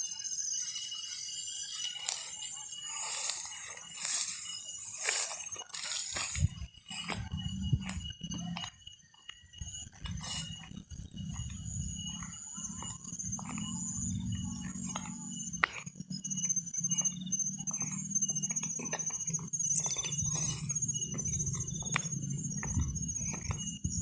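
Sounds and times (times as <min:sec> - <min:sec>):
insects chirping and trilling: 0:00.0 - 0:24.0.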